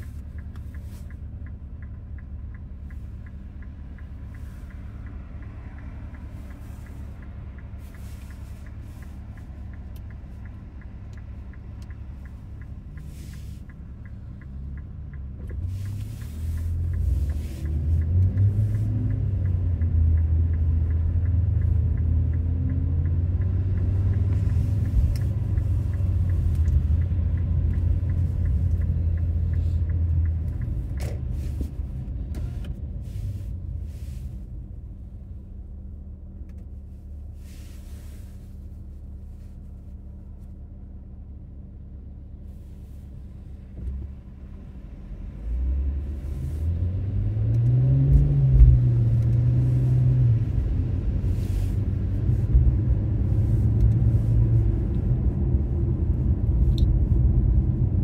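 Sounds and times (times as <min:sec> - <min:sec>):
car engine accelerating: 0:00.0 - 0:58.0
car engine humming: 0:00.0 - 0:58.0.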